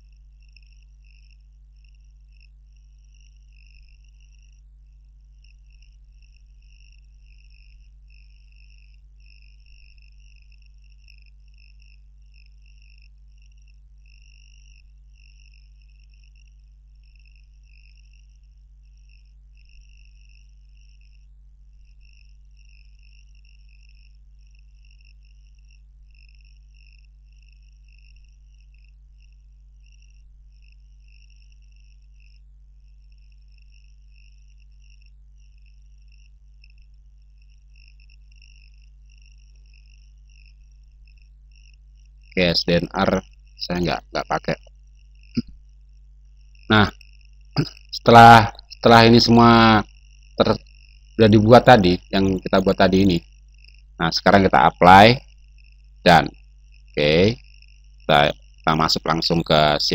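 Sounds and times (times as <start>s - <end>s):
insects chirring: 0.0s - 59.9s
low electrical hum: 0.0s - 59.9s.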